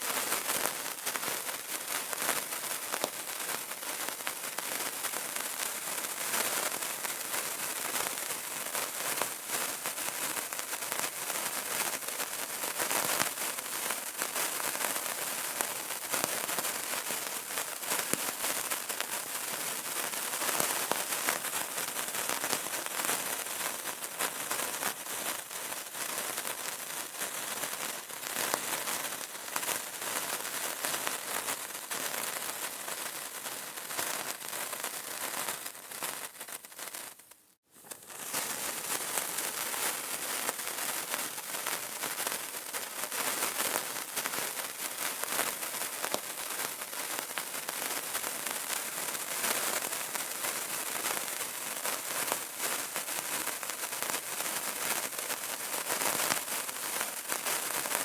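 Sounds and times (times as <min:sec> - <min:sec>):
candle crackling: 0:00.0 - 0:58.0.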